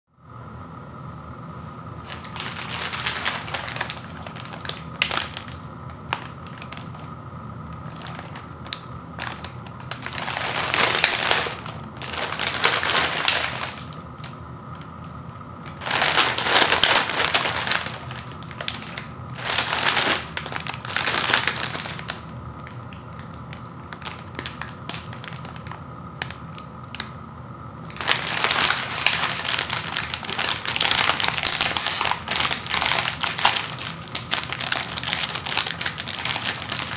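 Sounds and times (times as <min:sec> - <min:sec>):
plastic wrapper crinkling: 0:02.0 - 0:27.1, 0:27.9 - 0:36.9.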